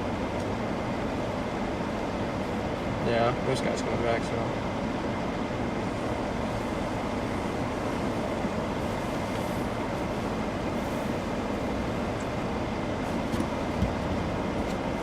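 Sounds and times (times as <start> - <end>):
road and tyre rumble in cabin: 0.0 - 15.0.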